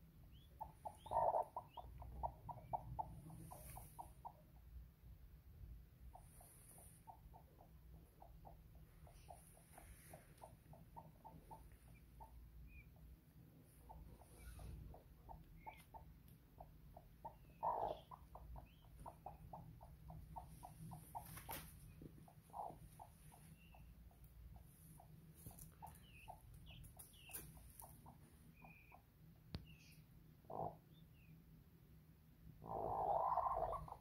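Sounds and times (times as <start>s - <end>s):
peachicks peeping: 0.0s - 31.8s, 32.5s - 34.0s.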